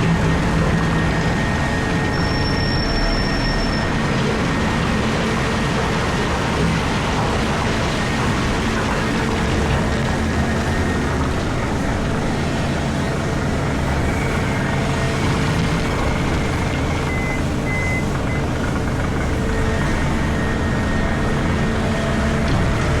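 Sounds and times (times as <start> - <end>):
excavator engine drone: 0.0 - 23.0.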